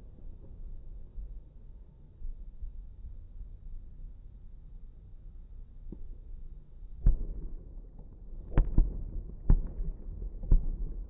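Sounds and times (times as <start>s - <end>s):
low rumble of fireworks: 0.0s - 11.0s.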